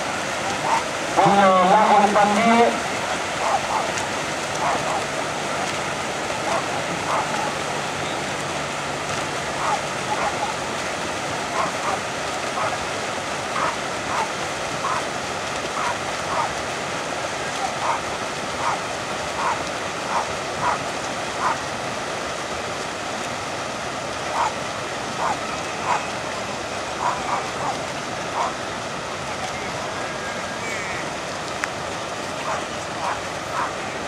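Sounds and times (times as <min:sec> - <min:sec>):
swimmers splashing in water: 0:00.0 - 0:22.1, 0:24.1 - 0:34.0.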